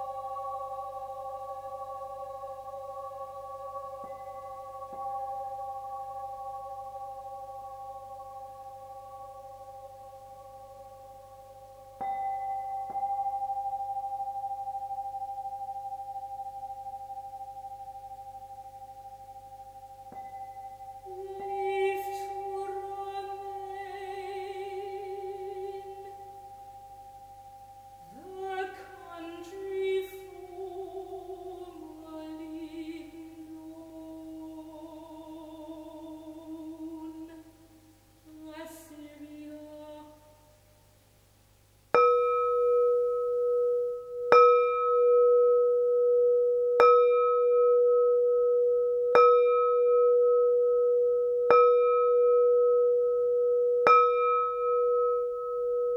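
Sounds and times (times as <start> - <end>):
wavering melody with vibrato: 0.0 - 40.7, 42.0 - 55.9.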